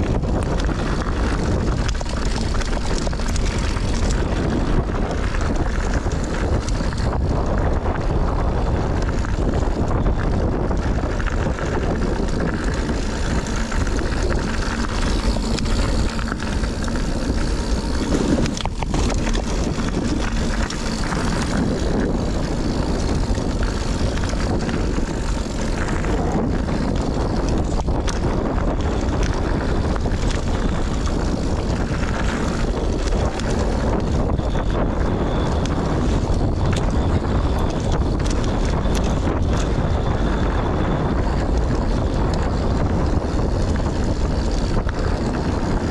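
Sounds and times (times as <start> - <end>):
bike clicks and rattles: 0.0 - 45.9
bike tyres rolling on dirt: 0.0 - 45.9
wind on microphone: 0.0 - 45.9.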